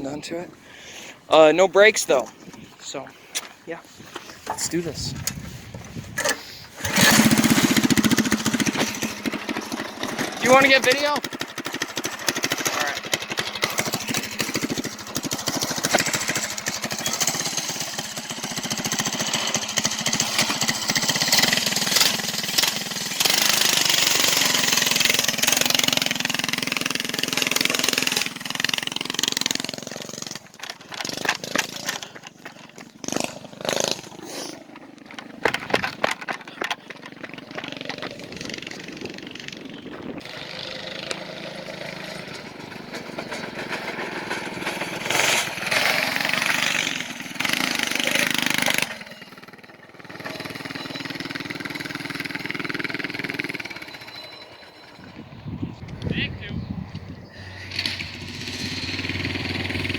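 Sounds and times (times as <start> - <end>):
go-kart engine running: 4.2 - 59.9.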